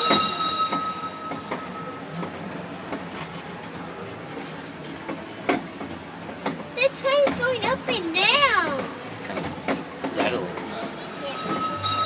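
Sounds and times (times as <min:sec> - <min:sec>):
ride-on train rattling: 0:00.0 - 0:12.0.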